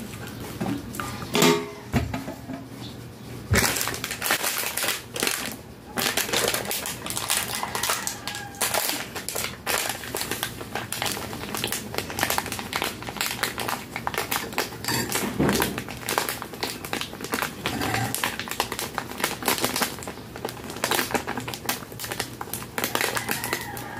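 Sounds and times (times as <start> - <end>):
plastic sachet crinkling: 3.5 - 23.9
powder pouring: 3.5 - 23.9.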